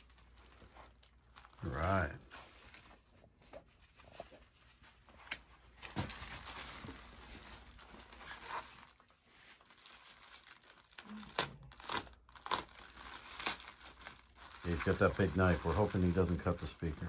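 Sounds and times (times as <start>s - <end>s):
plastic wrapping crinkling and tearing: 0.0s - 4.0s, 5.7s - 17.0s.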